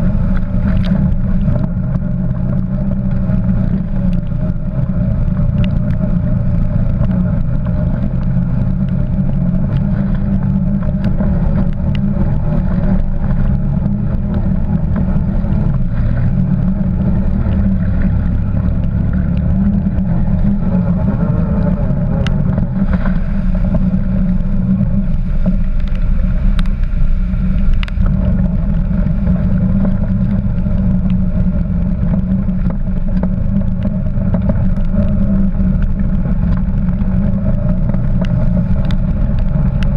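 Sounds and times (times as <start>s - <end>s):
quad bike engine running: 0.0s - 39.9s
water splashing: 0.0s - 39.9s.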